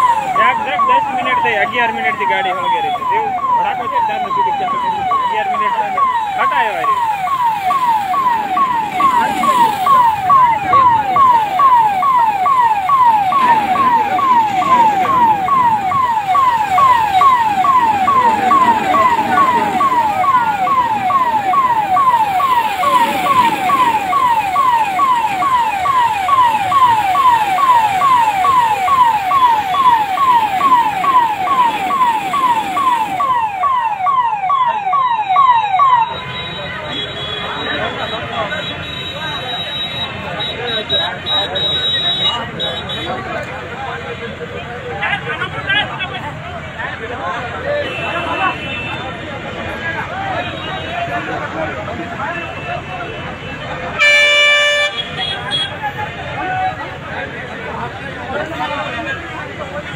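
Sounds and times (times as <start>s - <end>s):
crowd commotion: 0.0s - 59.9s
fire engine electronic siren: 0.0s - 59.9s.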